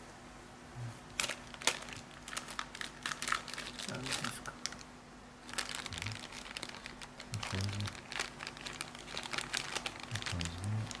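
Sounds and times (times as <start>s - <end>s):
crinkly packaging rustling: 1.1s - 11.0s.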